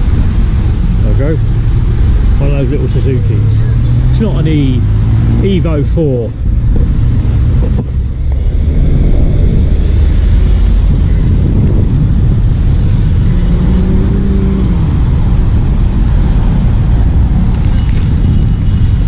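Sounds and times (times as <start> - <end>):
vehicle engine drone passing: 0.0 - 18.2
road traffic rumble: 0.0 - 19.0.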